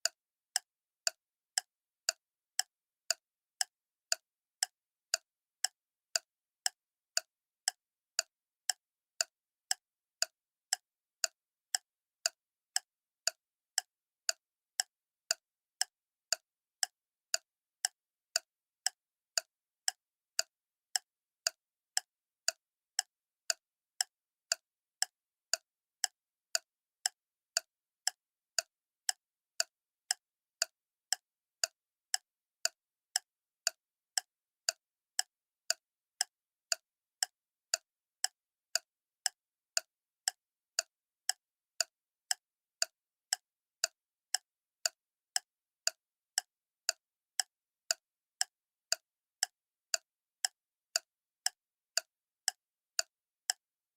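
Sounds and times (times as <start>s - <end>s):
clock ticking: 0.0s - 53.6s.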